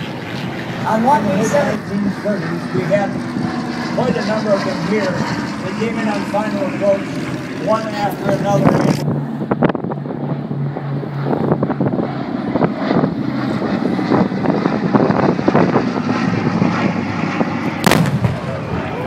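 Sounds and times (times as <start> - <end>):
propeller plane engines flying past: 0.0 - 19.0
wind buffeting microphone: 0.0 - 19.0.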